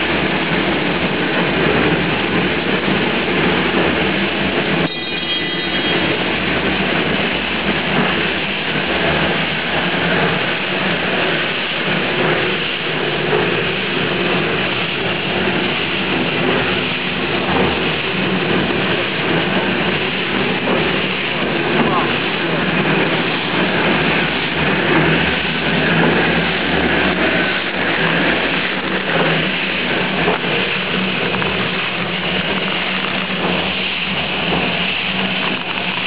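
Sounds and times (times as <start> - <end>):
factory machinery din: 0.0 - 36.0.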